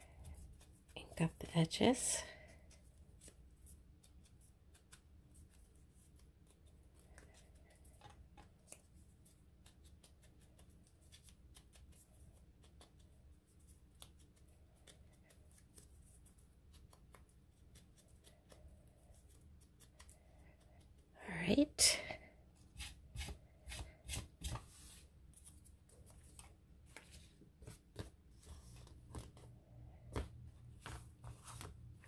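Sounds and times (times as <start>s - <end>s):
hands handling paper and card: 2.5s - 21.1s, 22.7s - 32.0s.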